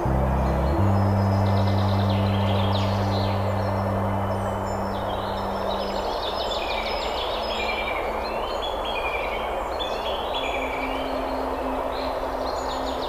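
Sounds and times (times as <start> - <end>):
low steady hum: 0.0 - 7.9, 10.4 - 13.0
songbird singing: 0.0 - 13.0.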